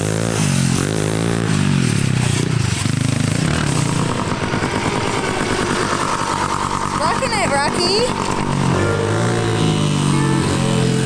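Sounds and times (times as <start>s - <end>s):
small dirt bike engine: 0.0s - 11.0s.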